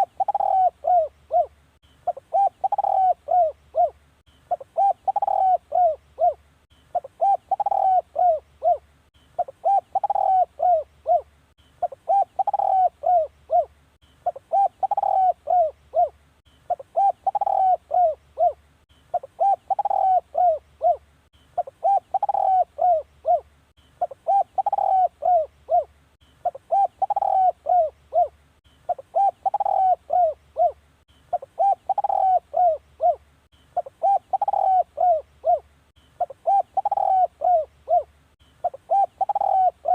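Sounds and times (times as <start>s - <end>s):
dove cooing: 0.0s - 21.0s, 21.6s - 33.2s, 33.8s - 39.9s.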